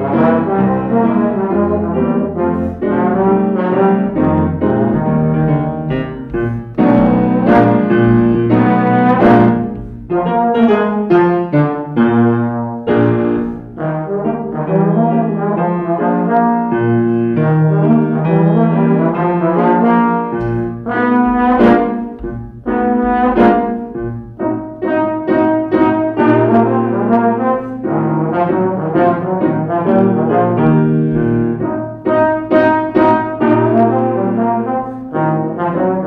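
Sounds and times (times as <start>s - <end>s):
piano accompaniment: 0.0s - 36.0s
slide trombone melody: 0.0s - 36.0s.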